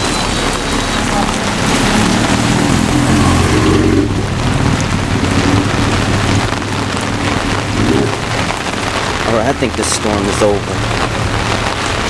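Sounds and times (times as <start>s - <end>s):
rain splashing on surfaces: 0.0s - 12.0s
low rumble: 0.9s - 12.0s.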